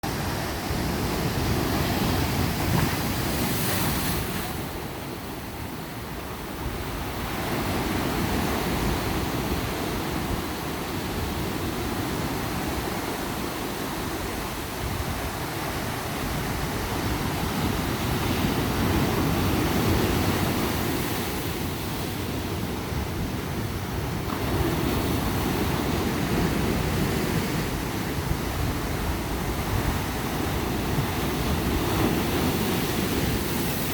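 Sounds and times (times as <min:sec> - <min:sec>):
wind on microphone: 0:00.0 - 0:33.9
ocean surf breaking: 0:00.1 - 0:14.4, 0:15.4 - 0:33.9.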